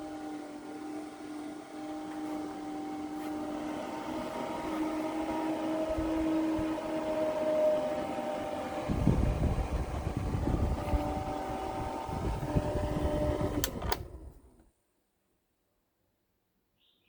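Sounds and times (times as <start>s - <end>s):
electric fan motor humming: 0.0s - 14.6s.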